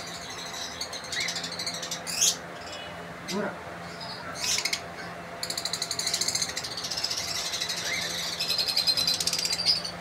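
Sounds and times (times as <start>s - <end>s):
lovebirds chattering: 0.0s - 10.0s.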